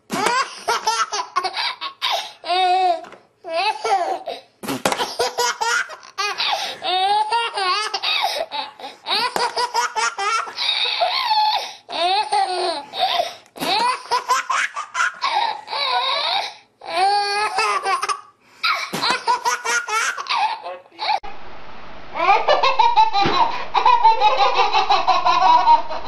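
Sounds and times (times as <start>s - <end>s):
baby laughing and squealing: 0.1s - 21.2s, 22.2s - 26.0s.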